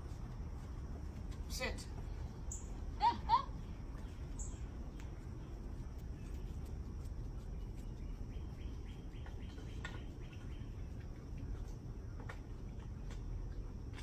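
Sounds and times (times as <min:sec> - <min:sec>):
faint high chirps and ticks: 0:00.0 - 0:14.0
steady low rumble: 0:00.0 - 0:14.0.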